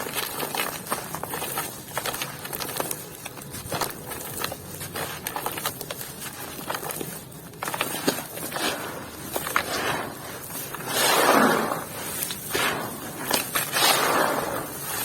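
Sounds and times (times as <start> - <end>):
dry clumps crumbled by hand: 0.0 - 15.0.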